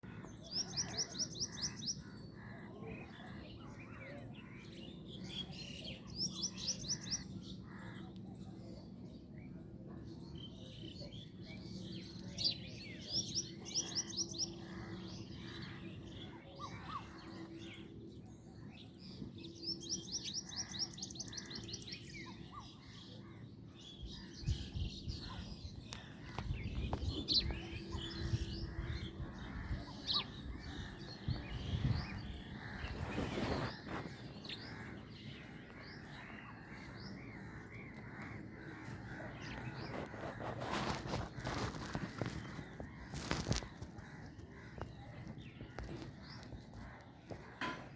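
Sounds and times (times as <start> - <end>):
sparrows chirping: 0.0 - 47.9.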